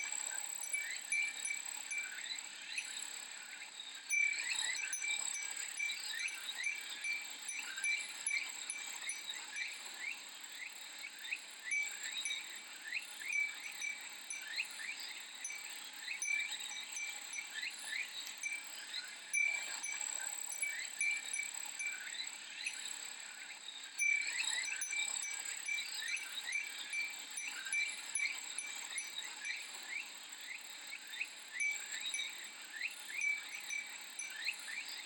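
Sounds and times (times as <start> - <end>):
wind chime tinkling: 0.0 - 3.0, 4.1 - 10.1, 11.6 - 22.9, 24.0 - 30.0, 31.5 - 35.0
cicadas droning: 0.0 - 35.0.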